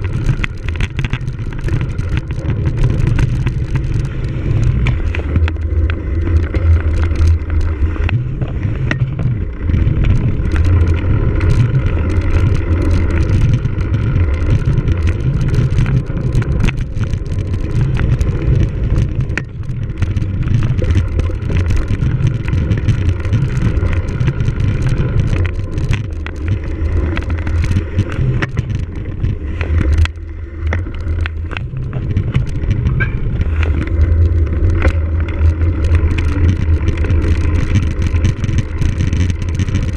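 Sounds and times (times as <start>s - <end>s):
bike clicks and rattles: 0.0s - 39.9s
wind rumble on microphone: 0.0s - 39.9s.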